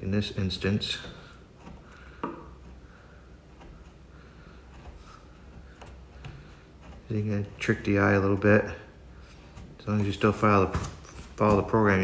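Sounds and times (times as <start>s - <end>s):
chisel scraping wood: 0.0s - 12.0s.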